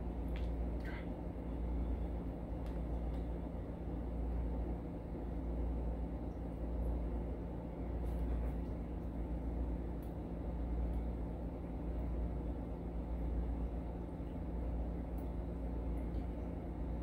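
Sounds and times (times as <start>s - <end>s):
low background rumble and hum: 0.0s - 17.0s.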